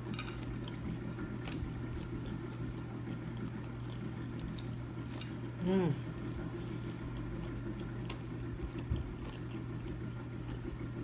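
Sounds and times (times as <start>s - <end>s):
chewing crunchy food: 0.0s - 11.0s
low room hum: 0.0s - 11.0s.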